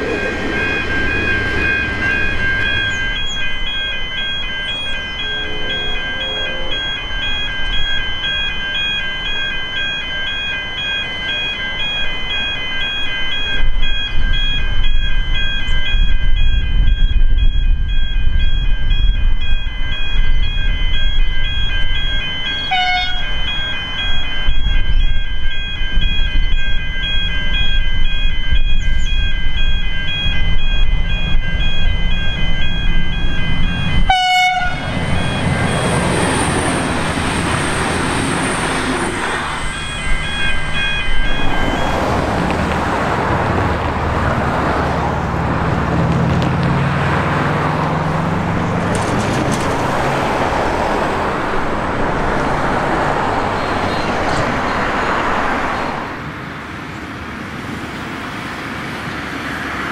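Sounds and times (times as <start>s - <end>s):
crossing warning bells ringing: 0.0s - 59.9s
road traffic noise: 0.0s - 59.9s
train diesel engine: 0.0s - 59.9s.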